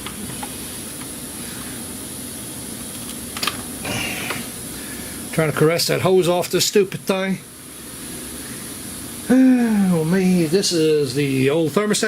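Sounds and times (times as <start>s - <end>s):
workshop mechanical drone: 0.0s - 12.0s.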